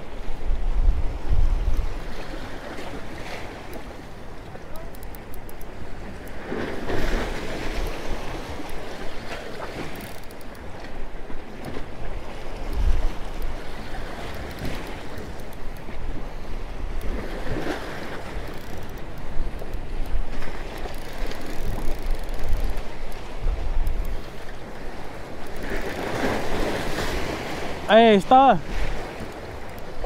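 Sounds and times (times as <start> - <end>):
wind buffeting microphone: 0.0 - 3.5, 6.9 - 27.8
waves washing against rocks: 5.8 - 30.0.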